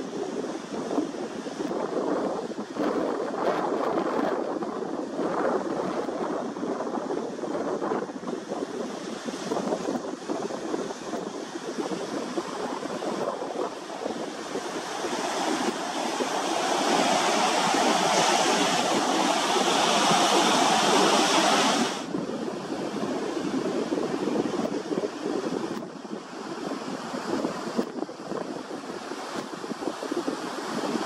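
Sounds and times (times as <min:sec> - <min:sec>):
sea surf washing on beach: 0:00.0 - 0:31.0
wind on microphone: 0:00.0 - 0:31.0.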